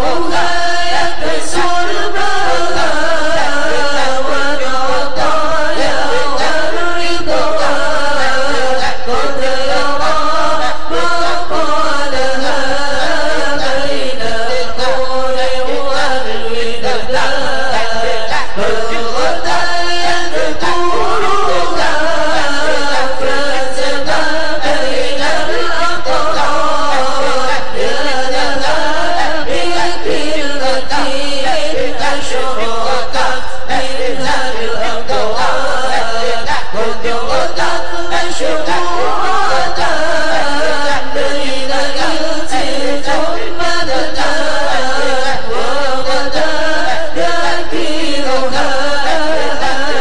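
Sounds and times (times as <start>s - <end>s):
congregation chanting devotional song: 0.0s - 50.0s.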